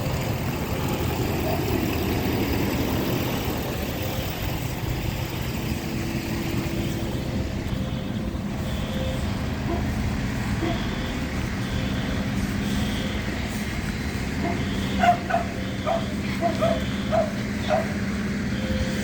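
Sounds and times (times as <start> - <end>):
fire truck engine idling: 0.0 - 19.0.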